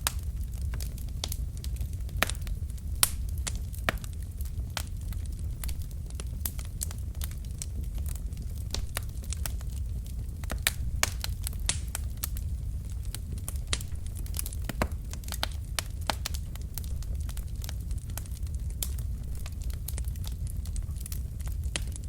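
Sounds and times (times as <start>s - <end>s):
logs crackling and popping: 0.0s - 22.0s
low rumble of flames: 0.0s - 22.0s.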